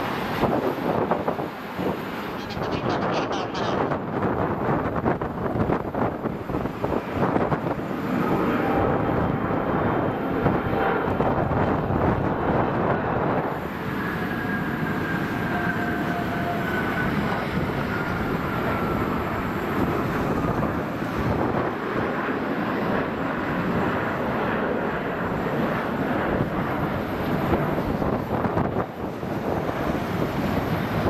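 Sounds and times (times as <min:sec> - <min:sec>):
jet engine noise: 0:00.0 - 0:31.0
jet engine whine: 0:00.0 - 0:31.0.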